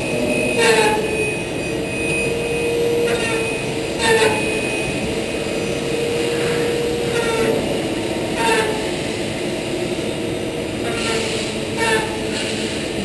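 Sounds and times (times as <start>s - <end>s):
falling machine whines: 0.0s - 13.0s
machine hum with held tone: 0.0s - 13.0s.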